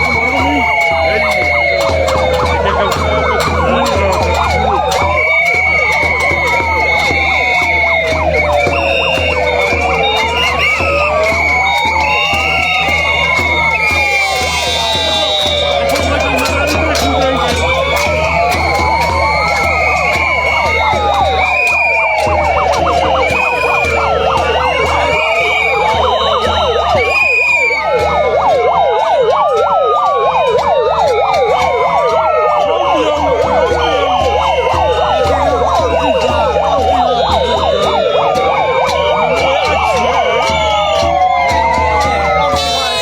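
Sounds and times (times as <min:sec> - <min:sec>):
chirping siren tones: 0:00.0 - 0:43.0
sirens wailing: 0:00.0 - 0:43.0.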